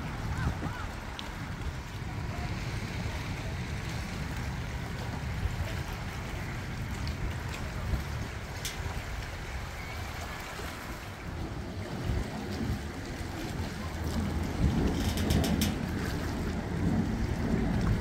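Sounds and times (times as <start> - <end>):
water lapping against rocky shore: 0.0 - 18.0
wind buffeting microphone: 0.0 - 18.0.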